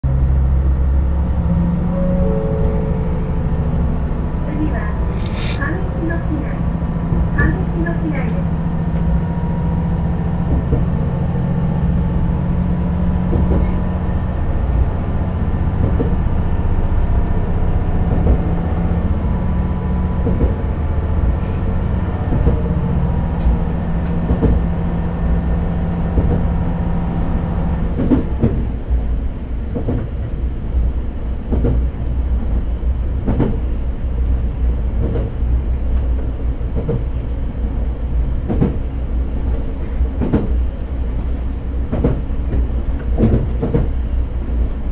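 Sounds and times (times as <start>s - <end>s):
diesel railcar engine: 0.0s - 44.9s
train rumble: 0.0s - 44.9s.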